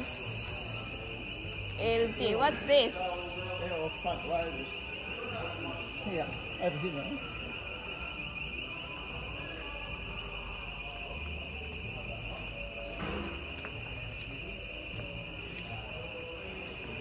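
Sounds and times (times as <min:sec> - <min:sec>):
faint distant voices: 0:00.0 - 0:17.0.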